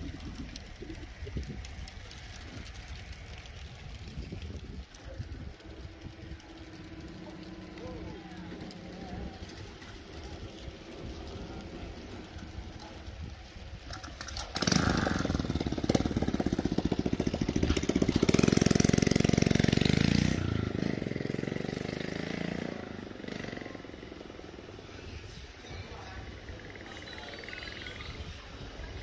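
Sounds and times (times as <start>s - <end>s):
small motorcycle passing: 0.0s - 29.0s.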